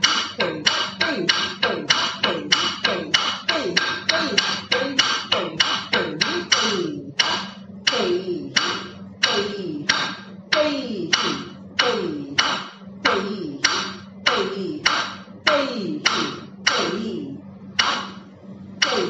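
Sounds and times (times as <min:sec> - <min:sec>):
rhythmic sharp taps: 0:00.0 - 0:19.0.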